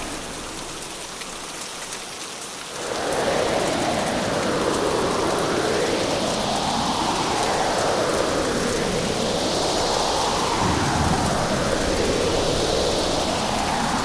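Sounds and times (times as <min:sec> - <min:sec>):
heavy rain pouring: 0:00.0 - 0:14.0
storm wind gusting: 0:02.8 - 0:14.0.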